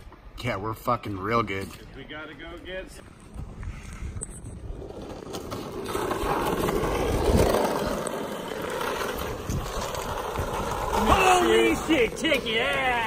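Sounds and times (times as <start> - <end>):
skateboard wheels rolling on asphalt: 1.1 - 13.0.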